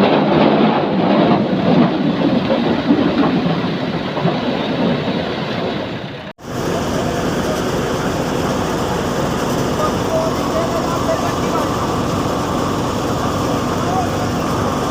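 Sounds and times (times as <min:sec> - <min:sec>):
harvester engine rumbling and clattering: 0:00.0 - 0:14.9.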